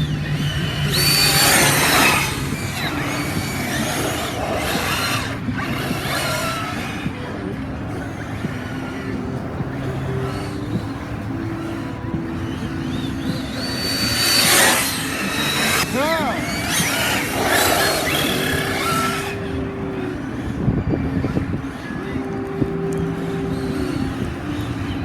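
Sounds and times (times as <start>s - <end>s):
electric motors whining: 0.0s - 25.0s
tyre and ground noise: 0.0s - 25.0s.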